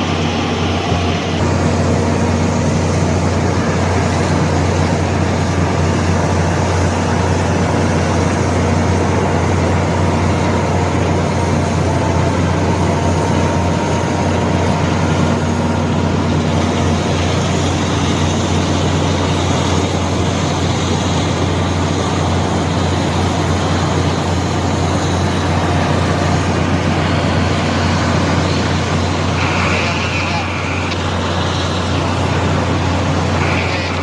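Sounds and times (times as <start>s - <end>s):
heavy machinery running: 0.0s - 34.0s.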